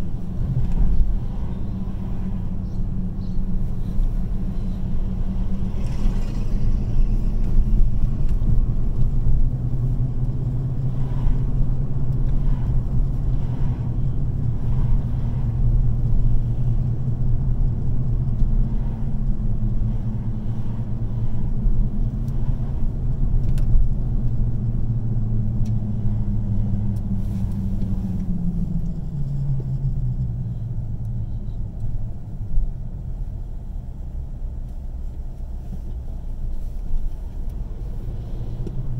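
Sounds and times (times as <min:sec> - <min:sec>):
car engine hum: 0:00.0 - 0:38.9
road rumble: 0:00.0 - 0:38.9.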